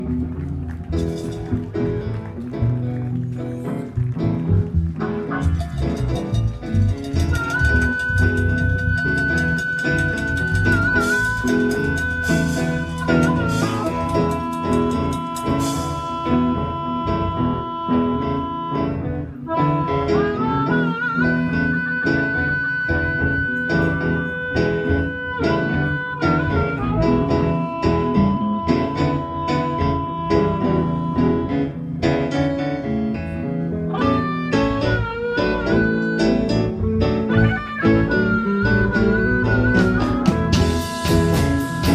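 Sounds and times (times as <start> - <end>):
lead guitar sustained notes: 0.0 - 41.9
live blues band playing: 0.0 - 41.9.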